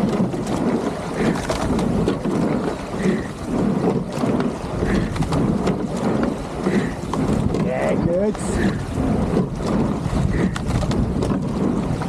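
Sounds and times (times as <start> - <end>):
rowing stroke sound: 0.0 - 12.0
water rushing along hull: 0.0 - 12.0
wind on microphone: 0.0 - 12.0.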